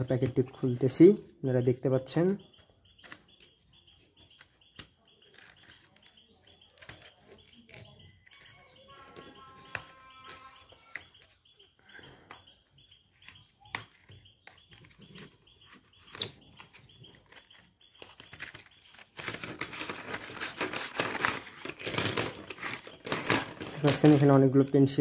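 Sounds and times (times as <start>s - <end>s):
pencils rustling and clicking: 0.0s - 25.0s.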